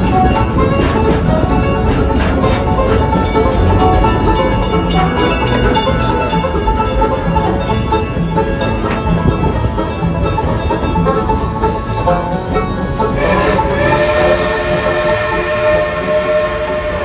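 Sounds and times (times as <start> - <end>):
rushing noise: 0.0 - 9.7, 12.9 - 17.0
bluegrass music with banjo: 0.0 - 16.7.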